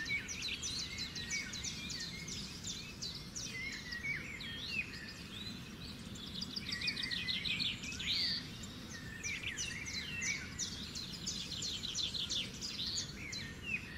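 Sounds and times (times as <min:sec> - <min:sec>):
birds chirping and singing: 0:00.0 - 0:13.9
low background noise: 0:00.0 - 0:13.9.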